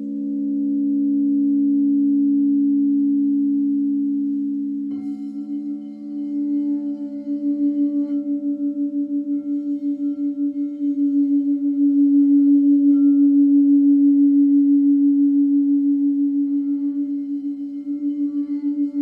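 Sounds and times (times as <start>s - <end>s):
singing bowls low pulsing tone: 0.0s - 19.0s.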